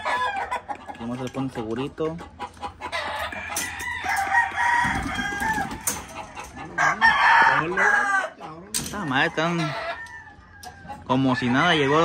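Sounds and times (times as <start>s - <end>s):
roosters crowing: 0.0s - 1.5s, 2.6s - 12.0s
rooster clucking: 0.0s - 12.0s.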